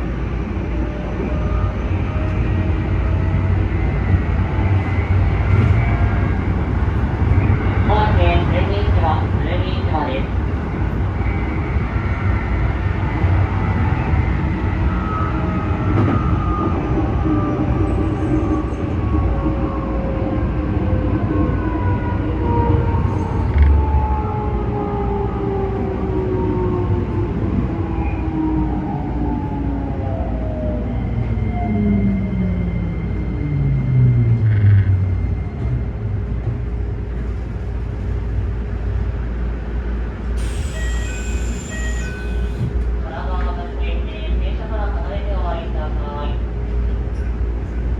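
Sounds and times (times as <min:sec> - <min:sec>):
train wheels rumbling on track: 0:00.0 - 0:27.8, 0:31.2 - 0:47.9.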